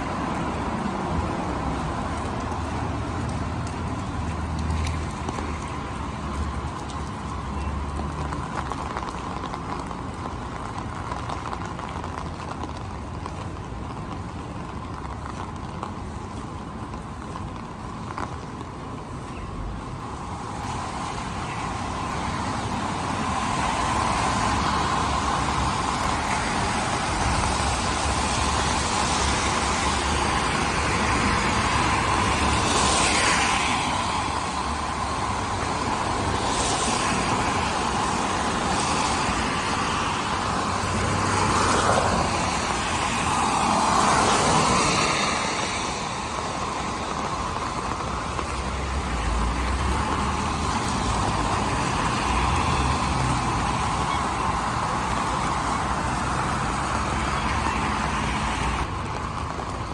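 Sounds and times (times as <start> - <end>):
cars passing: 0.0 - 59.9
city noise hum: 0.0 - 59.9
tyres hissing on wet pavement: 0.0 - 59.9.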